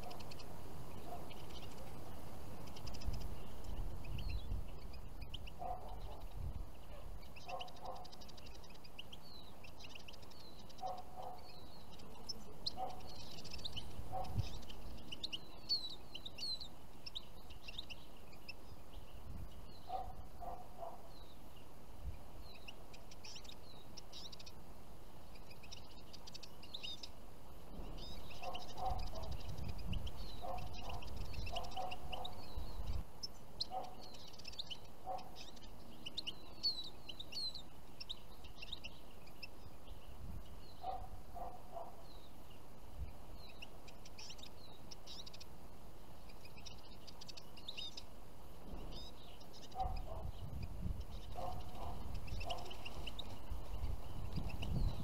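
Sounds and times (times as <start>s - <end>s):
finches twittering and chirping: 0.0s - 55.0s.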